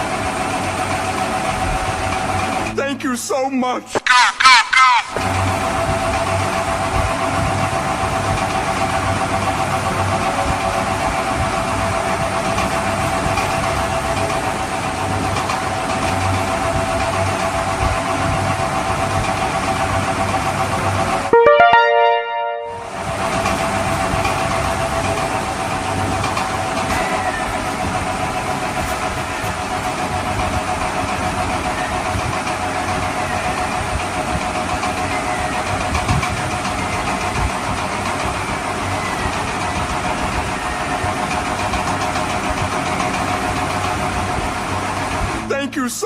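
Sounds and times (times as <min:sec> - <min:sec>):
engine running with hum: 0:05.2 - 0:21.3, 0:22.9 - 0:45.5.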